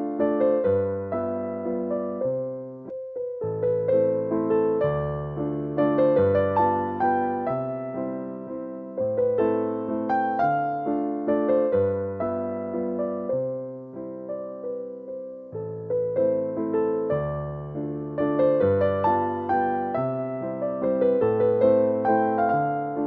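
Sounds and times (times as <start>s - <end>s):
gentle solo piano waltz: 0.0s - 23.0s.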